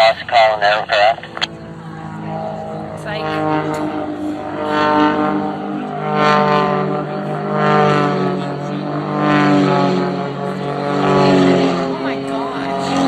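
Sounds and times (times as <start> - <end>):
aircraft engine droning: 0.0 - 13.0.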